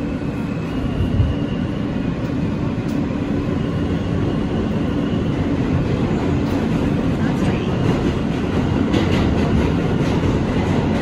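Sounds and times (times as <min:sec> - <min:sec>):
subway wheels rumbling on rails: 0:00.0 - 0:11.0.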